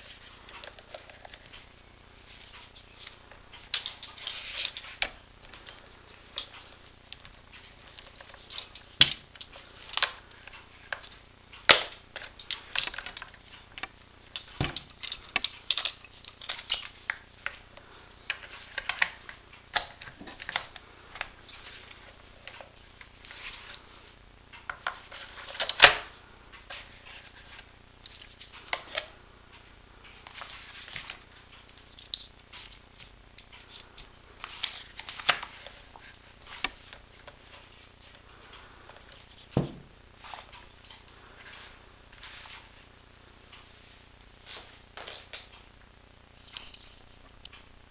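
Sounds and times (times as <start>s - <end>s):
plastic handling clicks and rustles: 2.4s - 23.8s, 24.5s - 42.8s.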